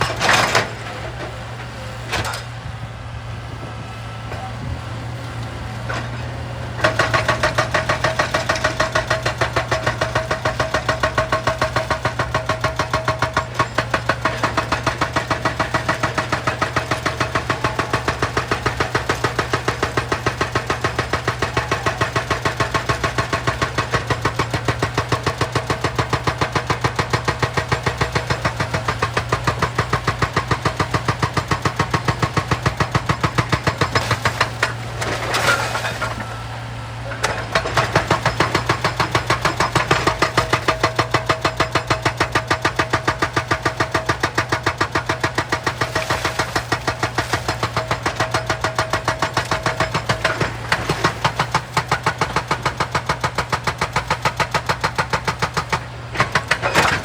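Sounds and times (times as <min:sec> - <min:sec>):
hydraulic breaker hammer pounding rock: 0:00.0 - 0:02.5, 0:05.7 - 0:57.0
diesel engine running: 0:00.0 - 0:57.0.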